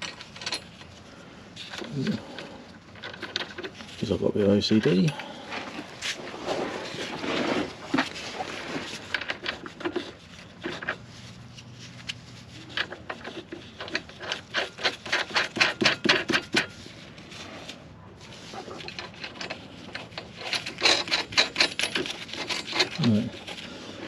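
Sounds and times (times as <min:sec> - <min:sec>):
bolts knocking and scraping: 0:00.0 - 0:01.0, 0:01.6 - 0:24.0.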